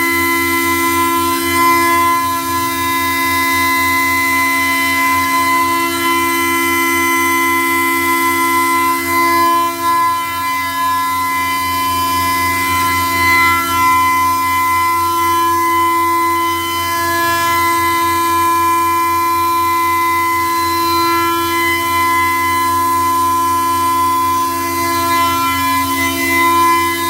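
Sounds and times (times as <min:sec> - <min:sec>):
milling spindle whine: 0:00.0 - 0:27.0.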